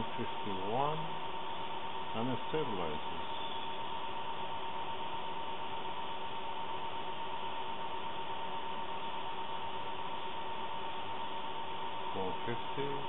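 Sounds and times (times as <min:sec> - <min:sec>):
high-pitched electrical whine: 0:00.0 - 0:13.0
steady hiss: 0:00.0 - 0:13.0.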